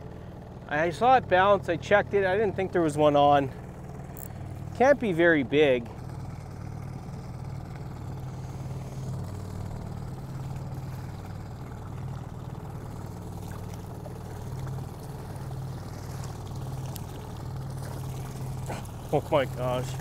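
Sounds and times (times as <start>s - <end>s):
small boat motor running: 0.0s - 20.0s.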